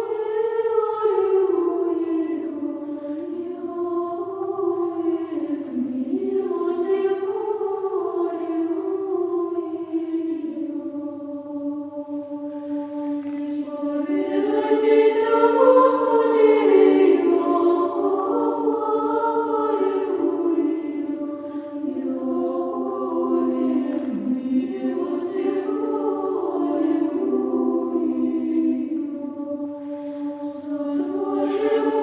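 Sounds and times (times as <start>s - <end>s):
choir singing slow chant: 0.0s - 32.0s.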